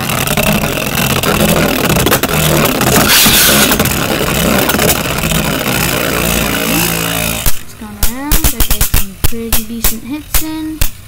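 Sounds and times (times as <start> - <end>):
spinning tops whirring on plastic: 0.0 - 11.0.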